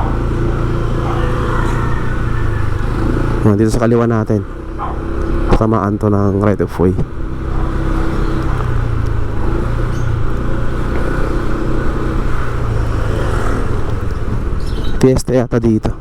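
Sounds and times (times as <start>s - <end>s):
road noise: 0.0s - 16.0s
vehicle engine drone: 0.0s - 16.0s.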